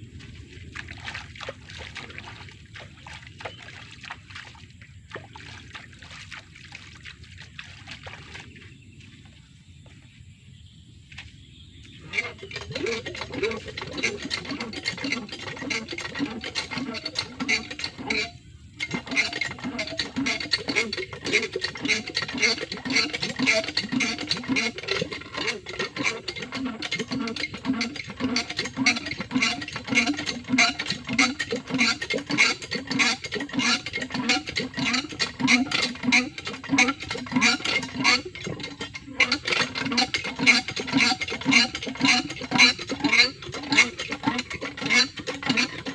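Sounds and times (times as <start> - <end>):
water pump clanking: 0.0 - 8.8, 11.8 - 45.9.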